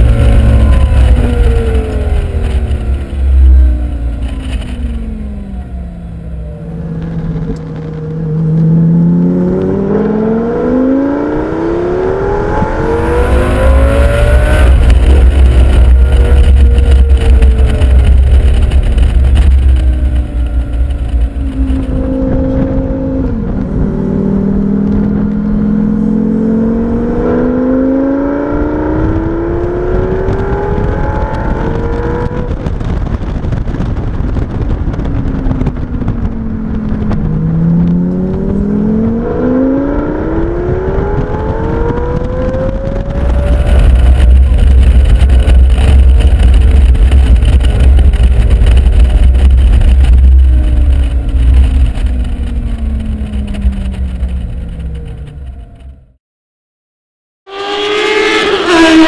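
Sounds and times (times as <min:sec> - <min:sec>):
sports car engine accelerating: 0:00.0 - 0:56.2, 0:57.5 - 0:59.0
wind rumble on microphone: 0:00.0 - 0:56.2.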